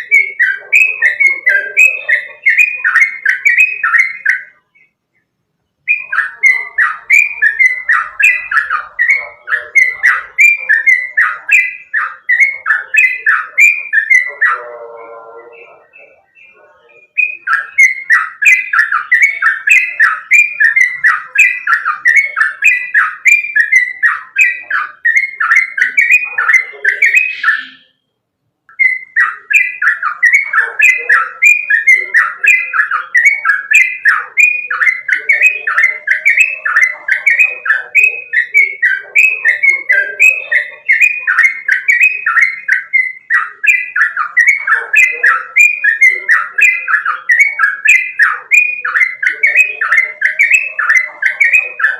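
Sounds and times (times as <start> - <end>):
bird singing fast chirps: 0.0 - 51.9.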